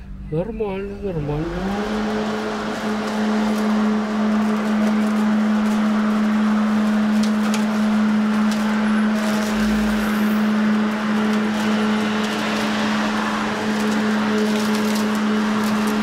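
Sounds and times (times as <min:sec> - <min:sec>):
lawn mower cutting grass: 0:01.0 - 0:16.0.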